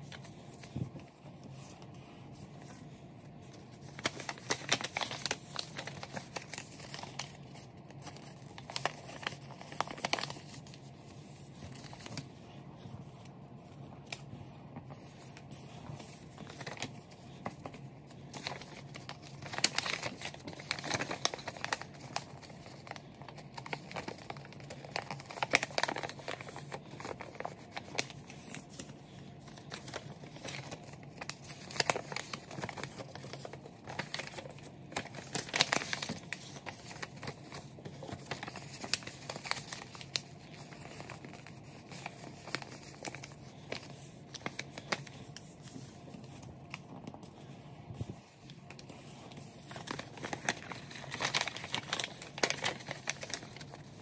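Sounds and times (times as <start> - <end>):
paper rustling and crinkling: 0.0 - 54.0
paper folds pressed flat: 2.7 - 12.4, 14.0 - 54.0.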